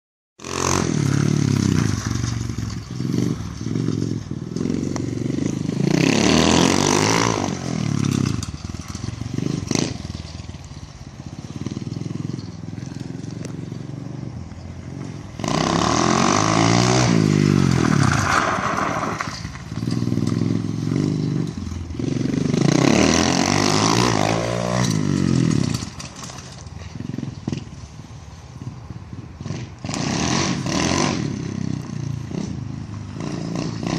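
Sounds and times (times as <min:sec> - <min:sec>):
dirt bike engine revving: 0:00.4 - 0:10.5, 0:14.8 - 0:27.7, 0:29.4 - 0:33.9.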